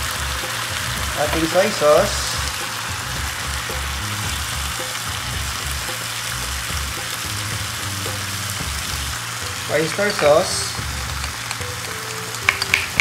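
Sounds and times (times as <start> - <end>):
food sizzling in a frying pan: 0.0 - 13.0
soft background music: 0.0 - 13.0.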